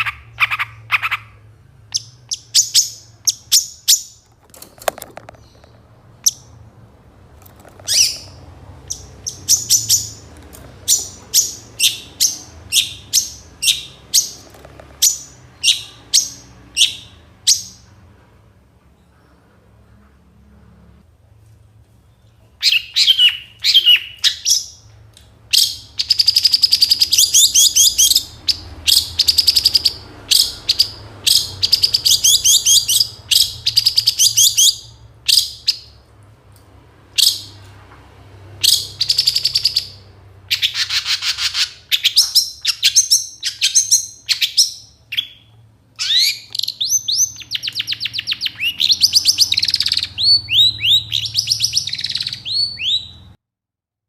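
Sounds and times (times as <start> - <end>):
bird singing high chirps and trills: 0.0 - 6.7, 7.8 - 18.0, 22.0 - 36.0, 38.6 - 53.4.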